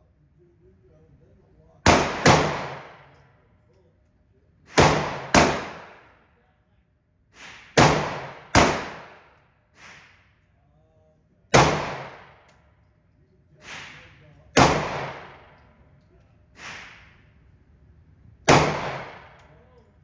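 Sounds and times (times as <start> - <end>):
gunshots in indoor range: 1.8 - 6.4, 7.2 - 10.6, 11.5 - 20.0.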